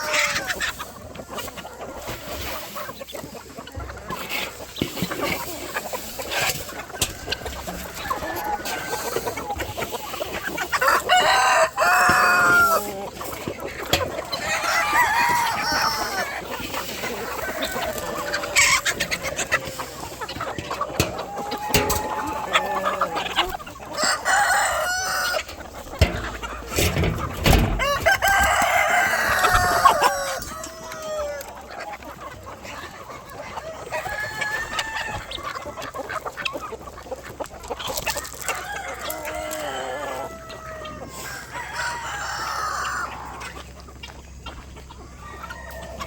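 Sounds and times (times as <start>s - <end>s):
roosters crowing: 0.0s - 2.8s, 3.8s - 36.4s, 37.8s - 43.8s, 44.6s - 46.0s
chickens clucking: 0.0s - 46.0s.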